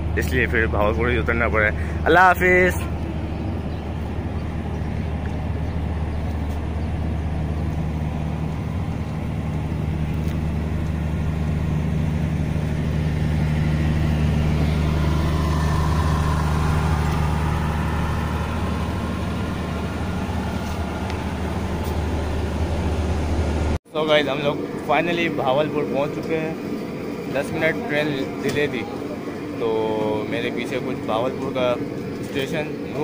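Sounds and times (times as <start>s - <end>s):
train diesel hum: 0.0s - 33.0s
wheels rumbling on rails: 0.0s - 33.0s.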